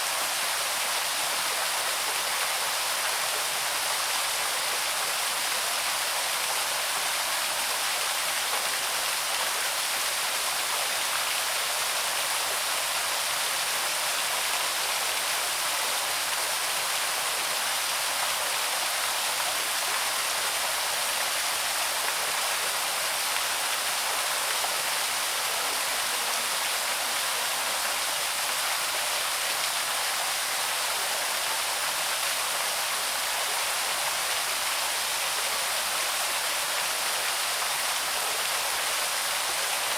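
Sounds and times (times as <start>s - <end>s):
small waterfall pouring: 0.0s - 39.9s.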